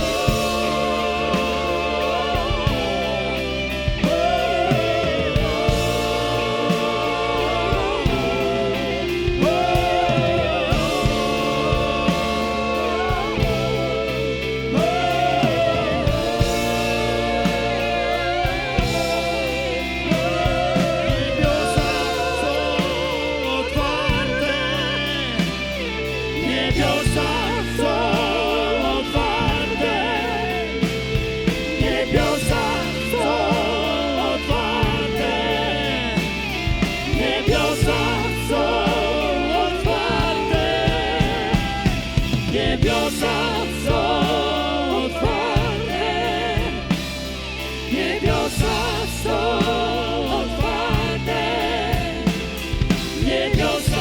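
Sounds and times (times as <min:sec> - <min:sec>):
singers wordless vocals: 0:00.0 - 0:54.0
wavering melodic lead line: 0:00.0 - 0:54.0
worship band playing: 0:00.0 - 0:54.0.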